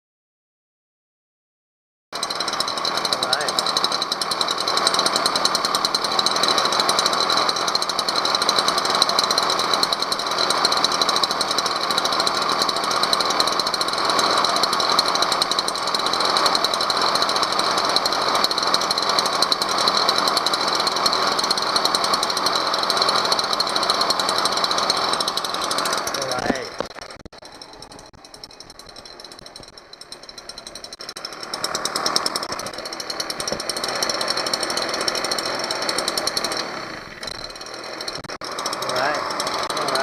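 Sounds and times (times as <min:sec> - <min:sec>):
leaf blower engine idling: 0:02.2 - 0:40.0.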